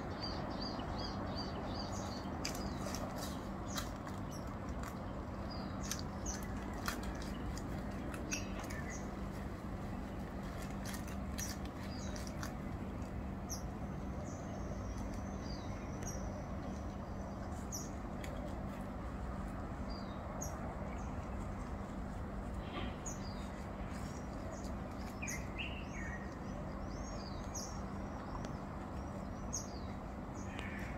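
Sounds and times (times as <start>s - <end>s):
faint hum: 0.0s - 30.9s
low background rumble: 0.0s - 30.9s
small birds chirping: 0.0s - 30.9s.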